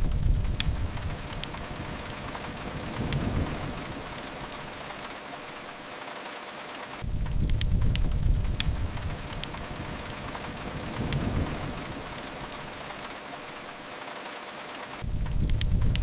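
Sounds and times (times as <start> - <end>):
low rumble: 0.0 - 5.7, 7.0 - 13.7, 15.0 - 16.0
steady rain: 0.0 - 16.0
wood fire crackling: 0.0 - 16.0.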